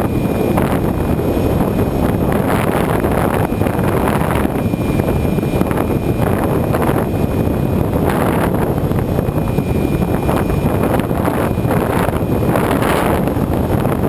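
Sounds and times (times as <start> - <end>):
faint high whine: 0.0 - 14.0
wind buffeting microphone: 0.0 - 14.0.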